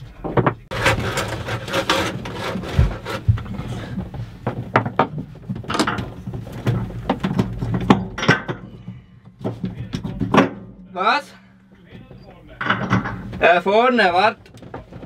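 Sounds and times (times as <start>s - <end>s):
knocks clicks and scraping: 0.0s - 15.0s.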